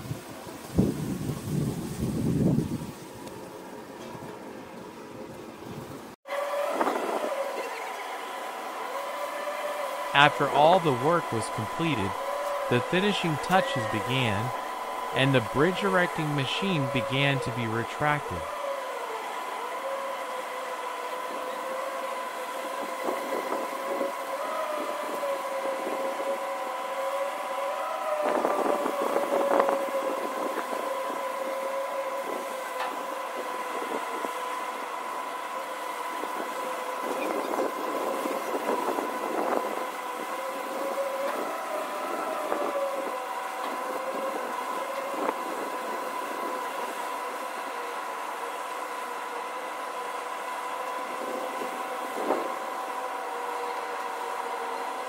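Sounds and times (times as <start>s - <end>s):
machine mechanical whine: 6.3s - 55.0s.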